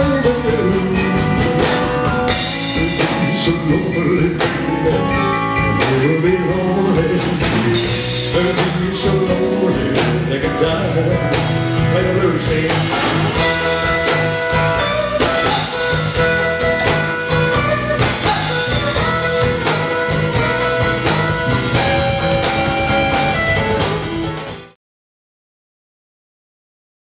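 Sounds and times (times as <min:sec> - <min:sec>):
person singing: 0:00.0 - 0:23.7
drum kit: 0:00.0 - 0:24.8
electric guitar: 0:00.0 - 0:24.8.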